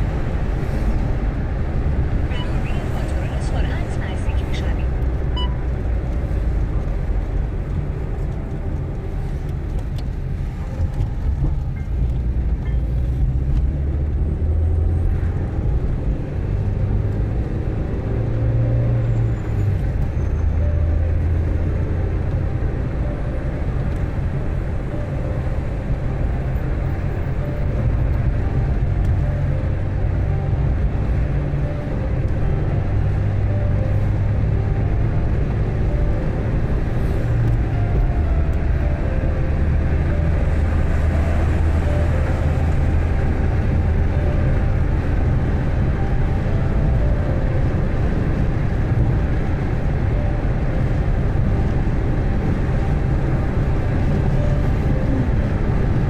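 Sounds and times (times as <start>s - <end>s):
car engine drone: 0.0s - 56.0s
road and tyre noise: 0.0s - 56.0s.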